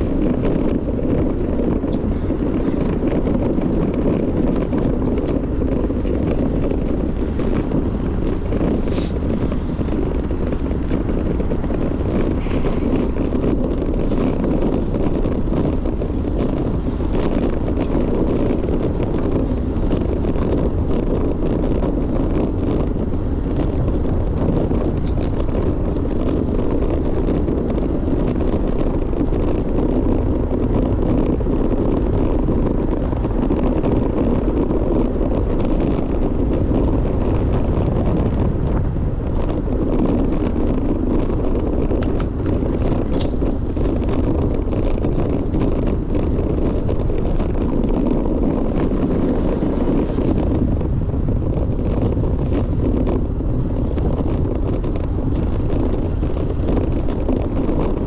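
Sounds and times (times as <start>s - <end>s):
wind buffeting a microphone: 0.0s - 58.0s.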